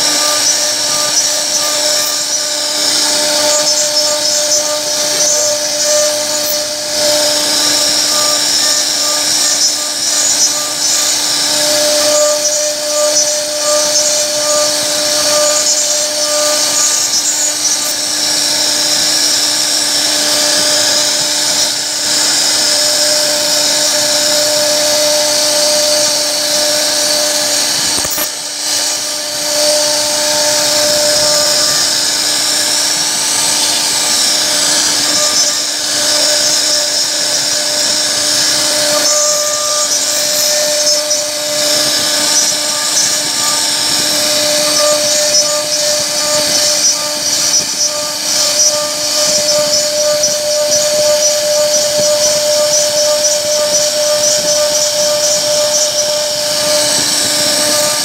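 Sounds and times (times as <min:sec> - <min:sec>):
bit cutting wood hiss: 0:00.0 - 0:58.0
router spindle whine: 0:00.0 - 0:58.0.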